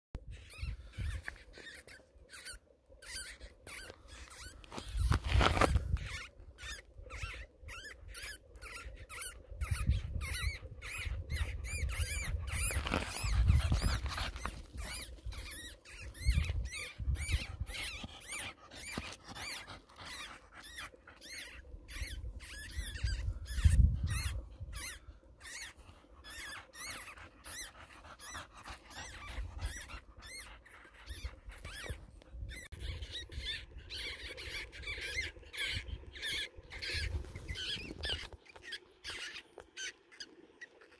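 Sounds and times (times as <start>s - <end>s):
baby weasels squeaking: 0.3s - 40.9s.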